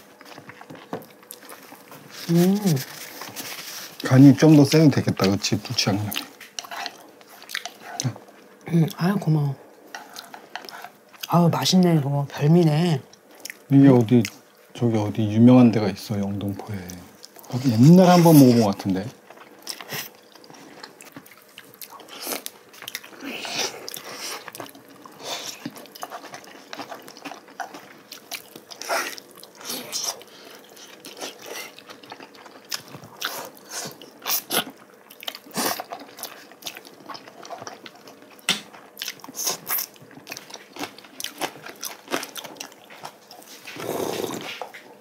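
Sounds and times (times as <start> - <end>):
chewing and crunching: 0.0 - 9.1, 13.1 - 14.7, 16.4 - 45.0.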